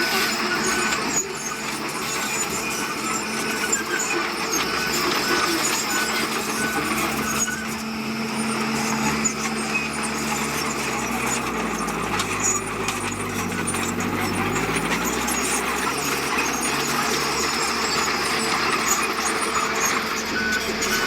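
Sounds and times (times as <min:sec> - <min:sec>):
diesel engine of heavy machinery: 0:00.0 - 0:21.0.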